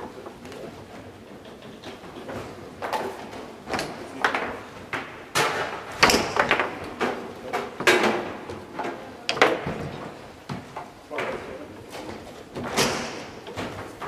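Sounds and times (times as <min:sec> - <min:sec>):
foosball rods knocking: 0:01.0 - 0:14.0
foosball cracking off players: 0:01.4 - 0:14.0.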